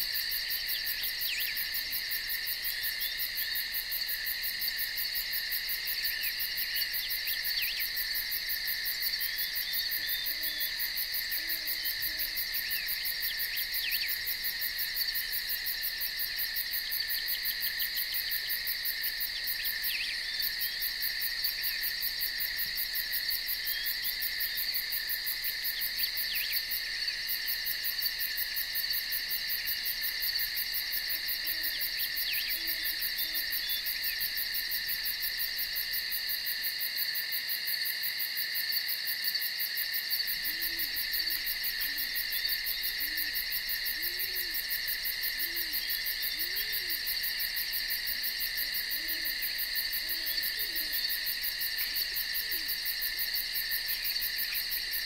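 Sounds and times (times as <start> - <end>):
insect chorus pulsing: 0.0 - 55.0.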